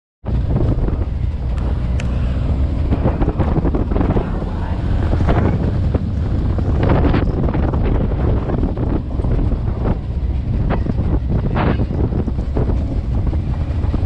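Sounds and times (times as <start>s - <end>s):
truck rumbling on dirt road: 0.2s - 14.0s
wind buffeting microphone: 0.2s - 14.0s.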